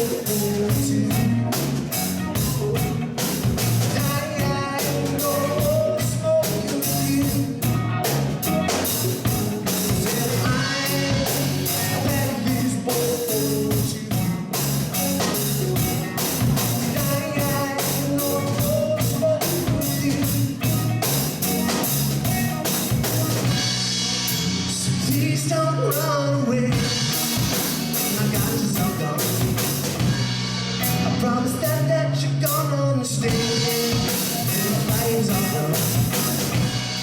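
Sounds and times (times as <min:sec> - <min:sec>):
drum kit: 0:00.0 - 0:31.9, 0:32.5 - 0:37.0
bass guitar: 0:00.0 - 0:37.0
electric guitars: 0:00.0 - 0:37.0.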